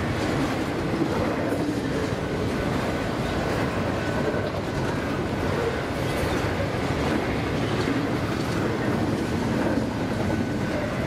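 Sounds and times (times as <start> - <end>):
steel wheels rumbling on rails: 0.0 - 11.0.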